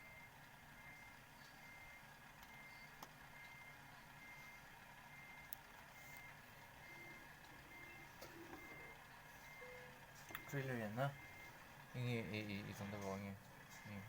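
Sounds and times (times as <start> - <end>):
reversing beeper: 0.0 - 12.3.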